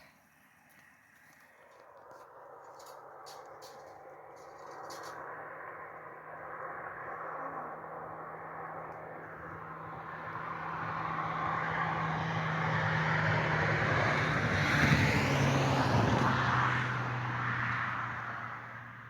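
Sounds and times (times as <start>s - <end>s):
motor vehicle passing by: 2.8s - 19.0s.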